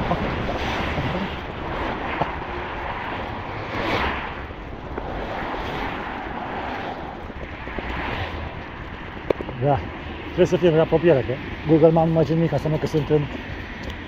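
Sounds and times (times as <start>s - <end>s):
road traffic: 0.0s - 14.0s
wind on microphone: 0.0s - 14.0s.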